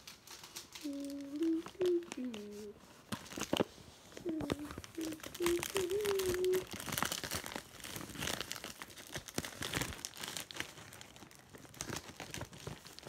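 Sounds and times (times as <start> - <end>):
bag crinkling and rustling: 0.0 - 13.0.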